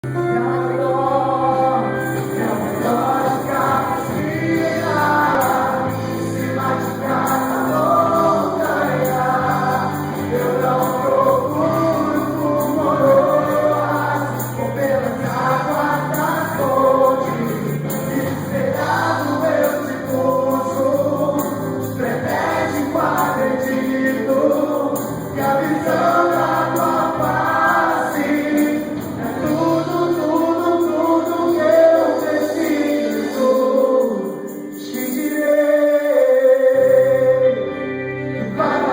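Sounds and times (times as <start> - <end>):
band accompaniment: 0.0 - 33.6
gospel group singing: 0.0 - 38.9.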